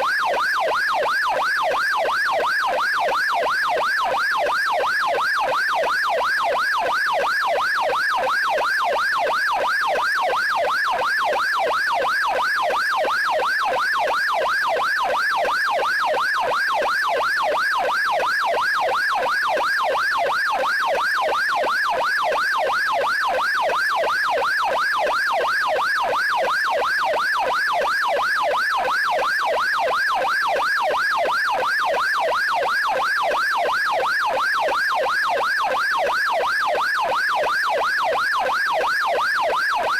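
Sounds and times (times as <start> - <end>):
police yelp siren wailing: 0.0 - 39.9.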